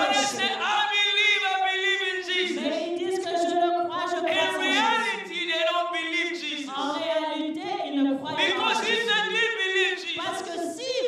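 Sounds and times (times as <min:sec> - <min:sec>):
congregation singing unaccompanied: 0:00.0 - 0:11.0.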